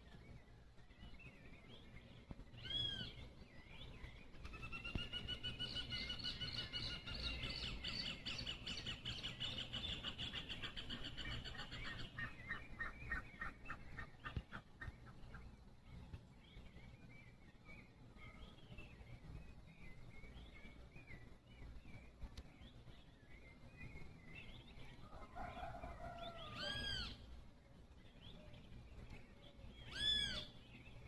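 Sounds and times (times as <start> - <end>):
bird singing a rapid trill: 0.0 - 31.0.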